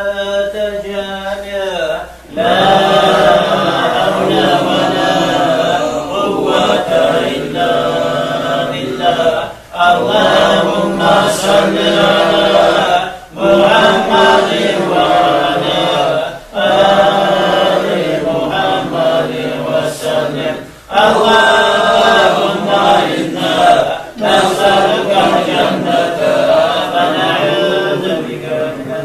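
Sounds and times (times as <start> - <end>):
men chanting devotional phrases: 0.0 - 29.0.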